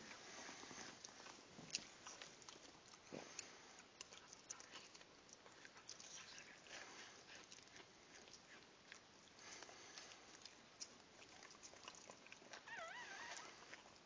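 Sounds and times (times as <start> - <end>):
dog licking puppy: 0.0 - 14.0.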